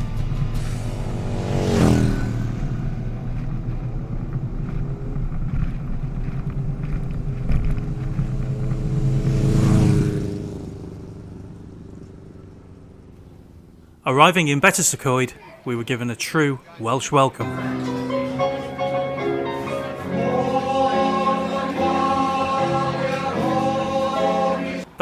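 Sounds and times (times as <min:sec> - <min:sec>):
motorcycles passing by: 0:00.0 - 0:15.8, 0:16.6 - 0:25.0.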